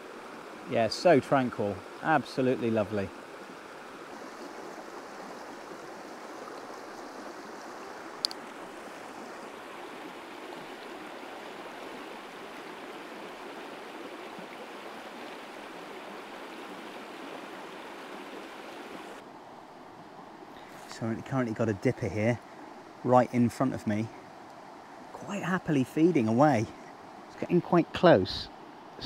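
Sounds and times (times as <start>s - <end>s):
water rushing over rapids: 0.0s - 29.0s.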